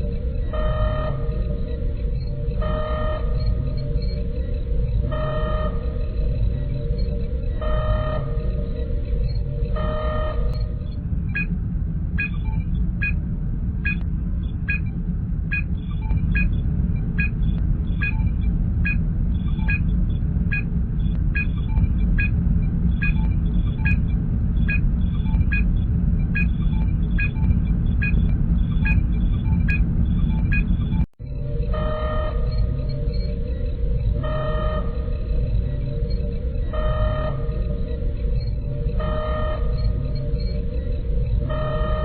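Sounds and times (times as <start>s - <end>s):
low engine rumble: 0.0s - 42.0s.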